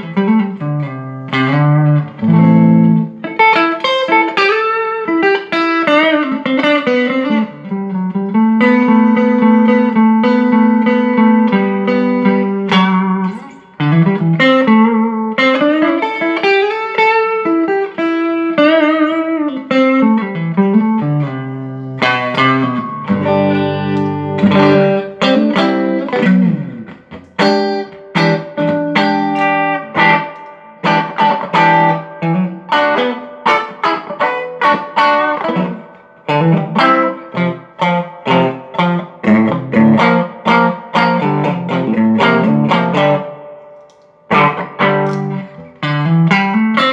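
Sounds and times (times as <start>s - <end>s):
electric guitar playing: 0.0s - 46.9s.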